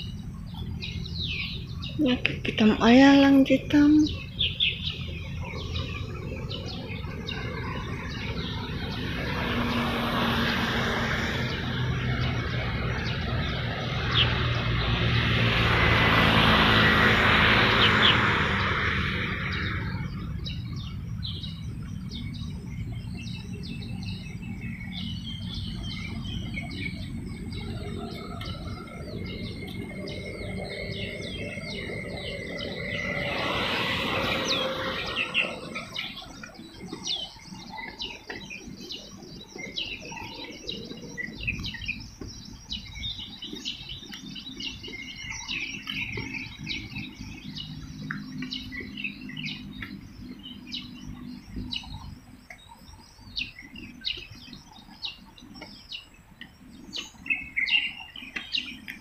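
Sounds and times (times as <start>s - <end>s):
motor vehicle passing: 0.0s - 59.0s
small birds chirping: 0.0s - 59.0s.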